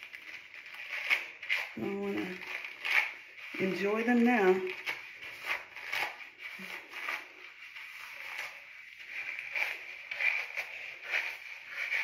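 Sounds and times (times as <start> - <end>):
fingers rubbing wet hair: 0.0 - 12.0.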